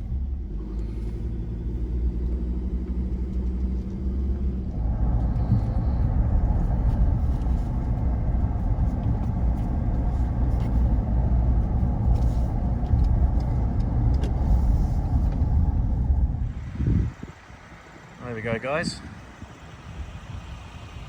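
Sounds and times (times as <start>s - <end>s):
engine and tyre rumble: 0.0s - 21.0s.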